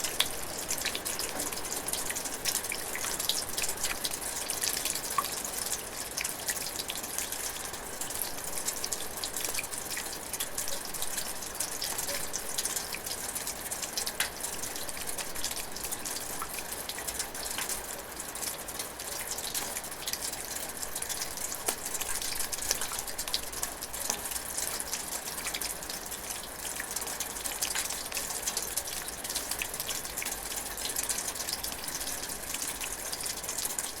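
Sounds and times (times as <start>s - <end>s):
rain dripping in a metal gutter: 0.0s - 34.0s.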